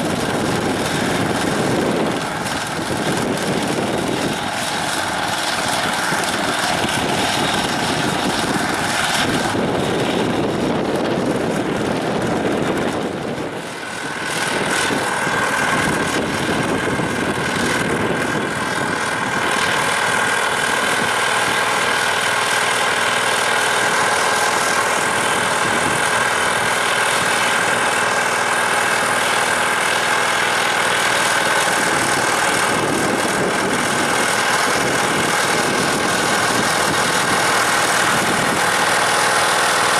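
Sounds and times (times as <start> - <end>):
diesel tractor engine running: 0.0 - 39.9
high whine: 0.0 - 39.9.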